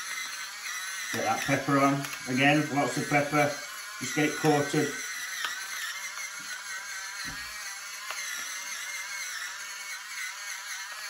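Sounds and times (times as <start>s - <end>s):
electric pepper grinder whirring: 0.0s - 11.0s.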